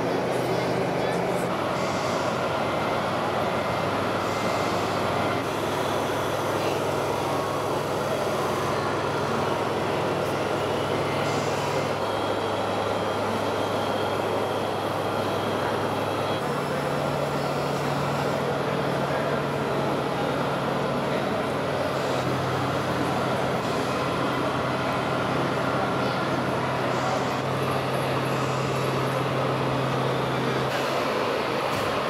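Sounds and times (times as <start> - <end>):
model truck engine drone: 0.0 - 32.0.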